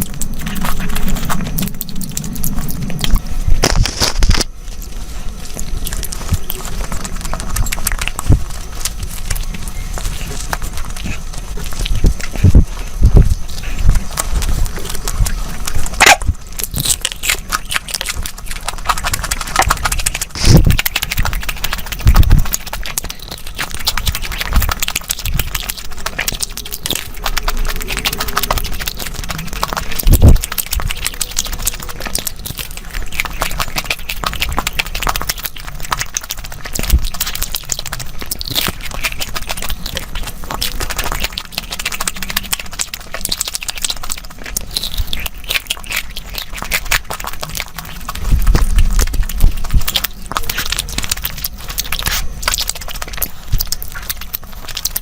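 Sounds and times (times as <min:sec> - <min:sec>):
chewing and crunching: 0:00.0 - 0:55.0
wet mouth clicks: 0:10.2 - 0:55.0.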